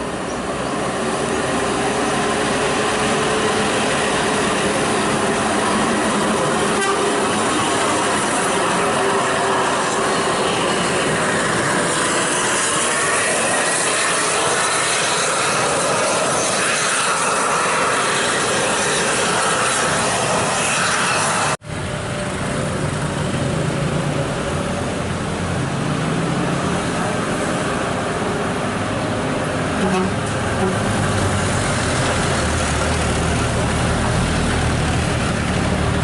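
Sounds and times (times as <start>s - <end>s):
heavy vehicle engine and road noise: 0.0s - 36.0s.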